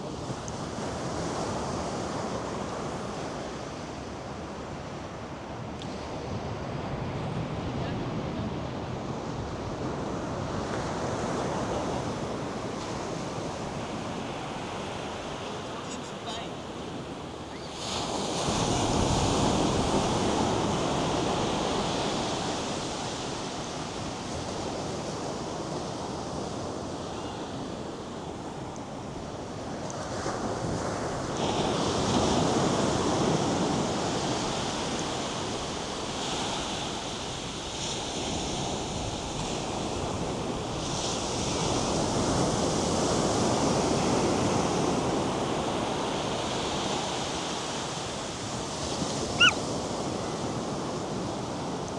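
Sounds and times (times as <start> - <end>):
waves breaking on shore: 0.0 - 51.9.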